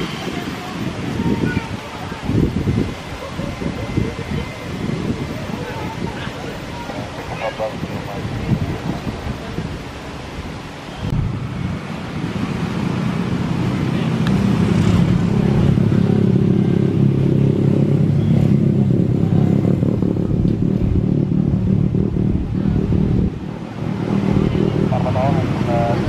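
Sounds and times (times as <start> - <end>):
aircraft engine hum: 0.0 - 26.0.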